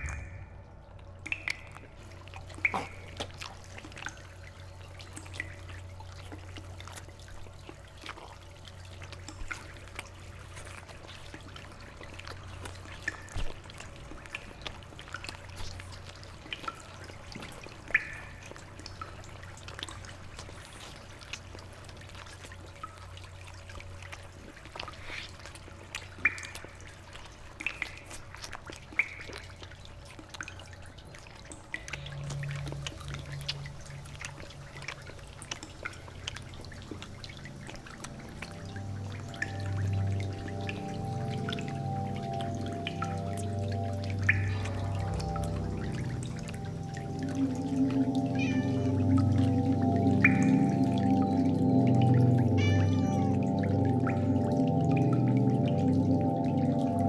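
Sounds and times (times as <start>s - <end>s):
water drops plinking: 0.0s - 20.6s, 26.0s - 28.2s, 28.8s - 57.0s
low steady hum: 0.0s - 57.0s.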